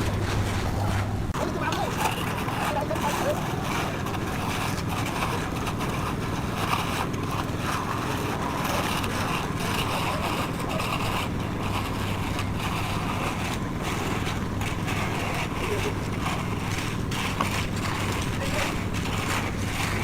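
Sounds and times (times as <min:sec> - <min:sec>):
concrete mixer engine drone: 0:00.0 - 0:20.0
rough uneven mixer noise: 0:00.0 - 0:20.0.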